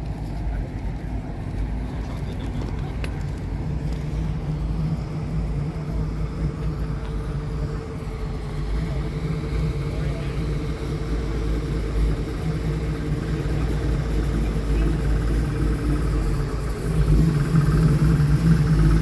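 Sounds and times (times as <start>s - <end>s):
car engine running: 0.0s - 19.0s
steady hum: 0.0s - 19.0s.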